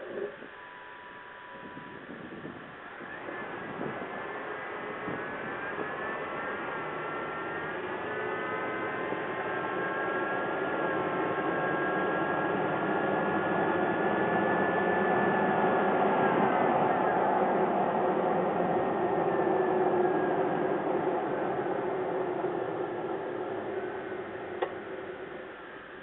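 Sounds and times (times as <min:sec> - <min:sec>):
high whine: 0:00.0 - 0:26.0.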